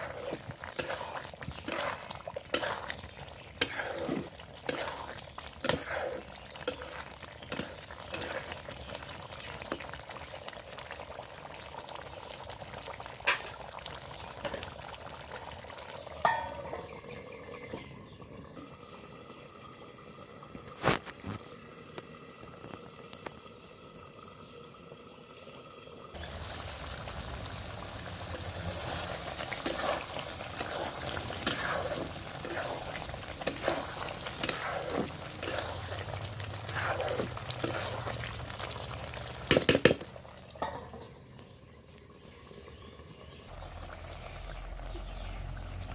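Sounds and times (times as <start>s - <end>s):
curry bubbling in a pot: 0.0s - 45.9s.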